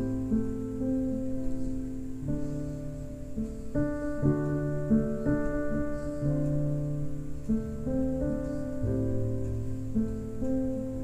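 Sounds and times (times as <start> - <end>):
instrumental music held chords: 0.0 - 11.0.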